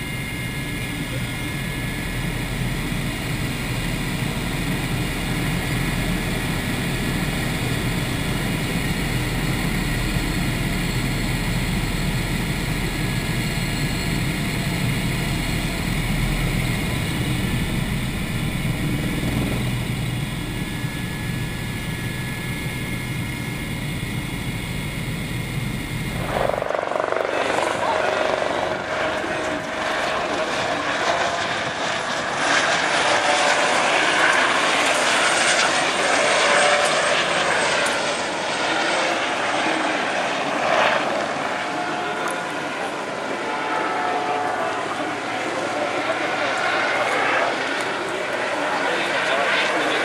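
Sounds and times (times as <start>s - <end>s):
helicopter rotor and engine drone: 0.0s - 50.0s
high-pitched whine: 0.0s - 50.0s.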